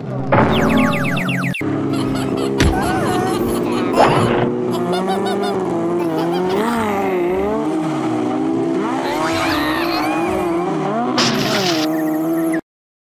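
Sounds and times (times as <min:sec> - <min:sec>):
racing car engines: 0:00.0 - 0:12.6.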